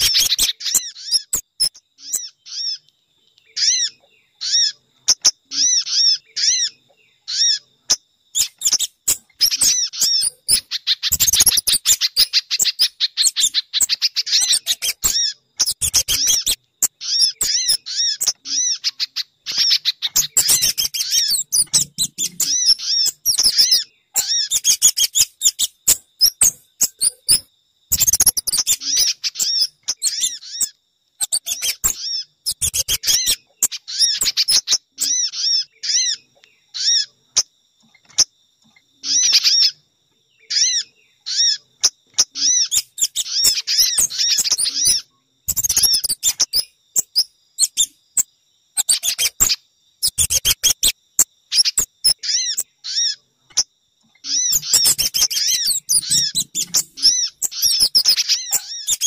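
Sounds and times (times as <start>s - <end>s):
small birds high chirps: 0.0s - 59.0s.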